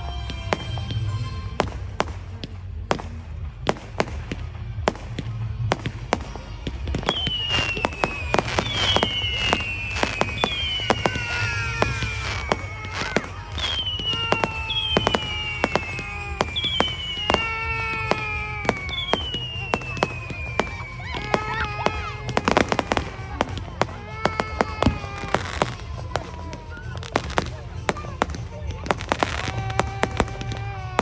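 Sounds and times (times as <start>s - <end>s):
fireworks bangs and cracks: 0.0s - 31.0s
whistling fireworks: 0.0s - 31.0s.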